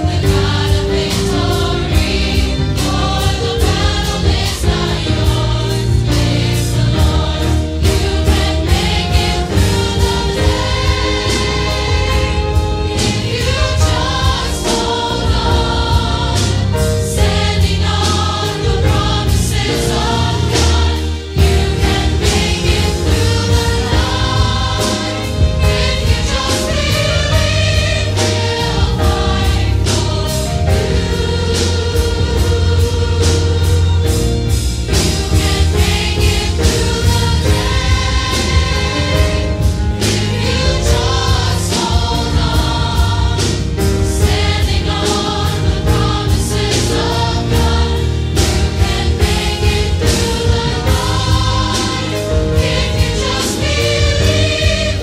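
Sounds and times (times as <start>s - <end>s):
gospel choir singing: 0.0s - 55.0s
instrumental accompaniment with bass: 0.0s - 55.0s.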